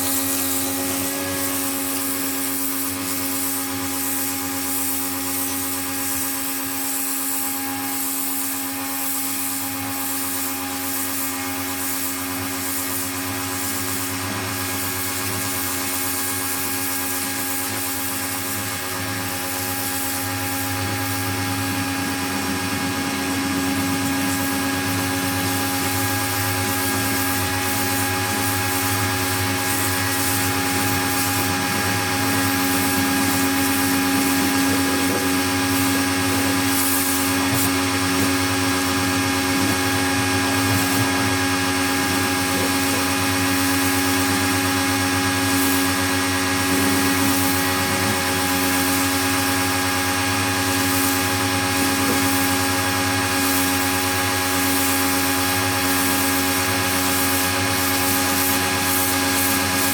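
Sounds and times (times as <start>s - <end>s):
pressure washer motor hum: 0.0s - 59.9s
spray jet hissing: 0.0s - 59.9s.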